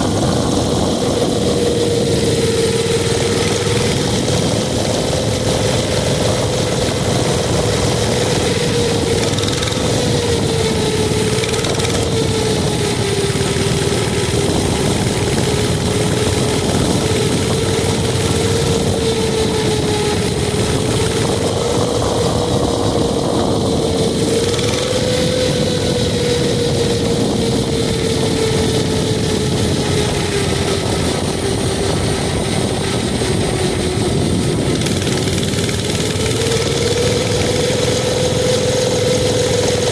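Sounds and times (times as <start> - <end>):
constant rushing noise: 0.0 - 39.9
mini bike engine running: 0.0 - 39.9.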